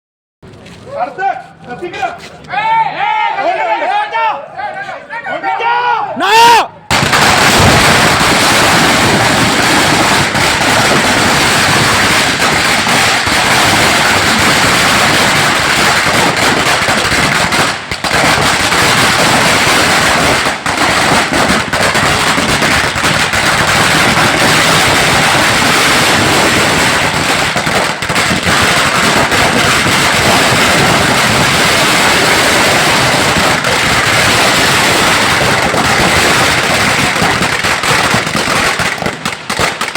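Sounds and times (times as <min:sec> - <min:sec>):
firecrackers crackling: 0:06.9 - 0:39.9.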